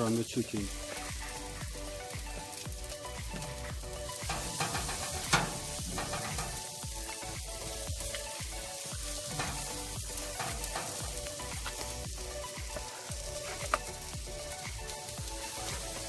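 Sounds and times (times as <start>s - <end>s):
chicken sizzling on a grill: 0.0s - 16.0s.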